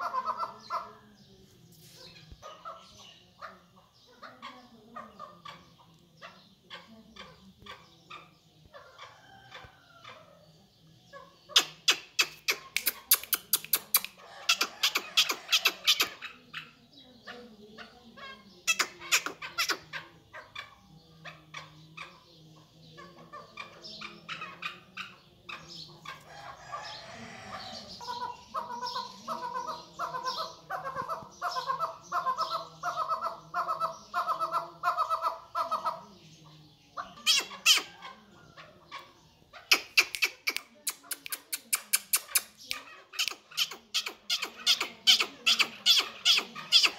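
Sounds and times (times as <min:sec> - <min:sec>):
partridge chuck calls: 0:00.0 - 0:46.9.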